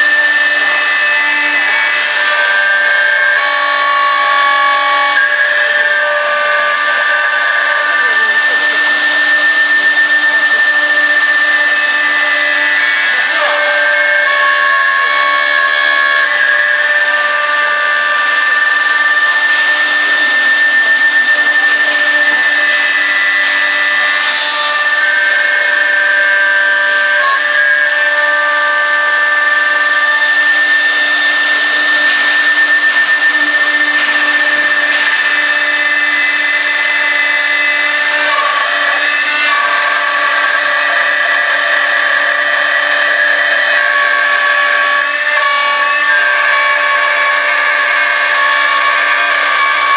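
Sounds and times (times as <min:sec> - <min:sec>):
cnc router spindle whine: 0:00.0 - 0:49.9.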